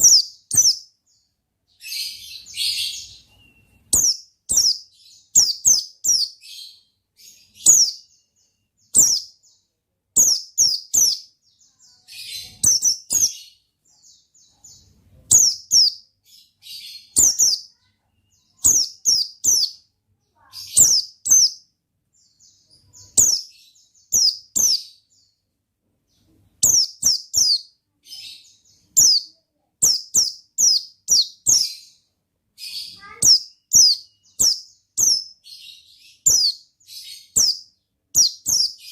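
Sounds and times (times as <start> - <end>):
white-eye bird singing: 0.0 - 38.9.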